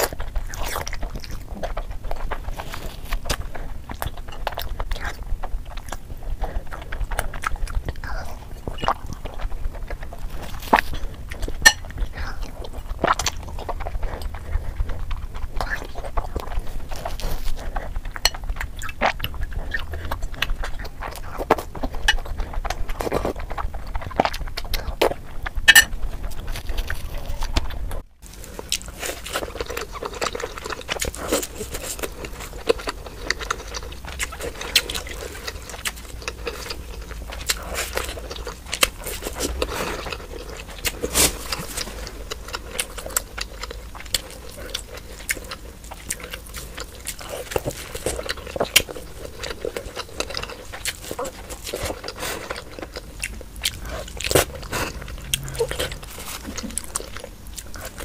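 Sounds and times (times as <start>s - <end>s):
person chewing and slurping: 0.0s - 58.0s.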